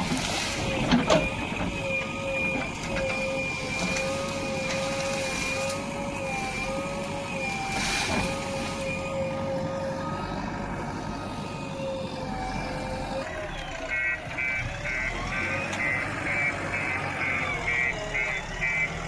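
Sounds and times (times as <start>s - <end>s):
diesel machinery whining: 0.0s - 19.0s.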